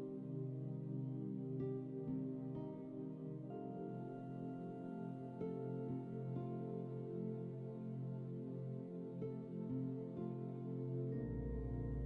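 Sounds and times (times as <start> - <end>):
soft new-age synth music: 0.0 - 12.0.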